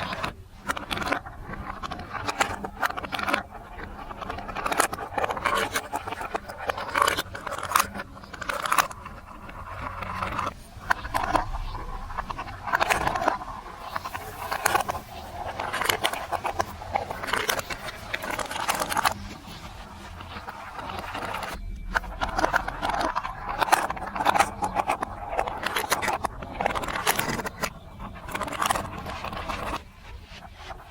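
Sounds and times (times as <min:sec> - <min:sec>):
plastic blocks and marbles clattering: 0:00.0 - 0:19.3, 0:20.2 - 0:29.9.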